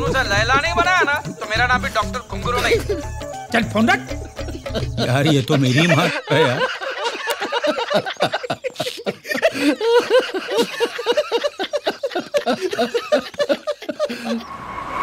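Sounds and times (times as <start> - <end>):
men laughing heartily: 0.2 - 1.5, 2.3 - 3.4, 4.2 - 14.5.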